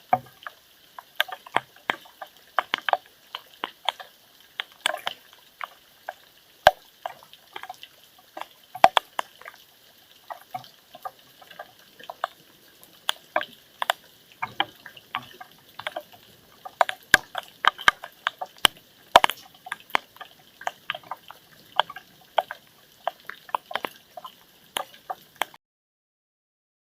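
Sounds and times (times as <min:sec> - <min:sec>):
rainwater dripping: 0:00.0 - 0:25.6.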